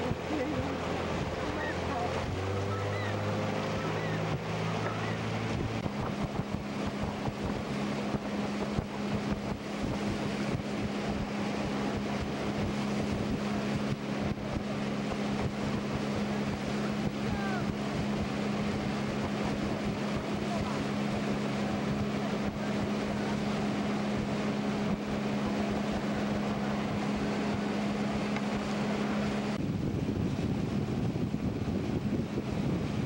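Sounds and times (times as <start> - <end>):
motorboat engine running: 0.0 - 33.0
wind buffeting microphone: 0.0 - 33.0.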